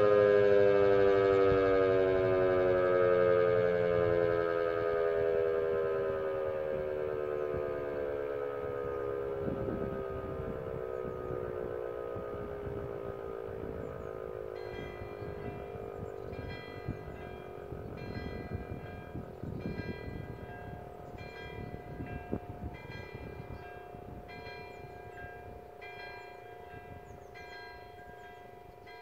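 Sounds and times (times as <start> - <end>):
motor siren howl falling in pitch: 0.0 - 29.0.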